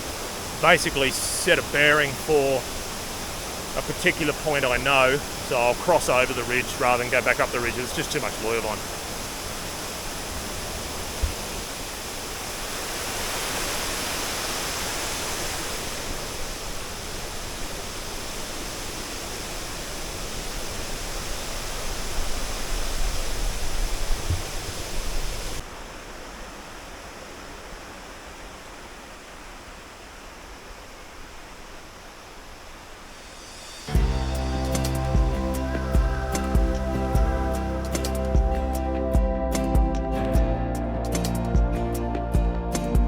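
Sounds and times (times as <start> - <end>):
waterfall and creek rushing: 0.0 - 38.6.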